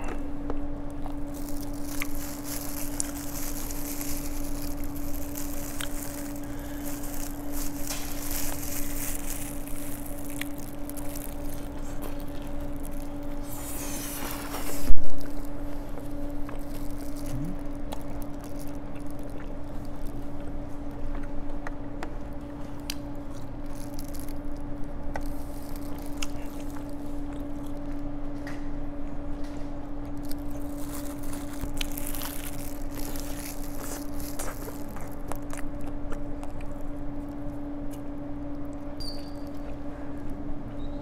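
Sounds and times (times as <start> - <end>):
wet chewing and crunching: 0.0 - 40.4
steady low hum: 0.0 - 41.0.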